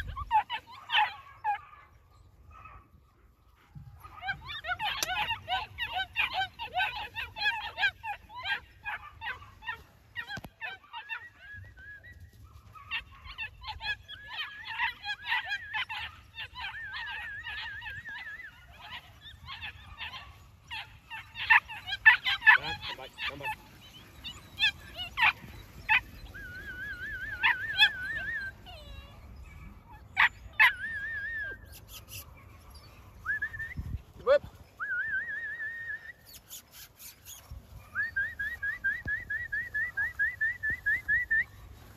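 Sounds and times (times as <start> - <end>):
puppies yipping and barking: 0.0 - 41.9.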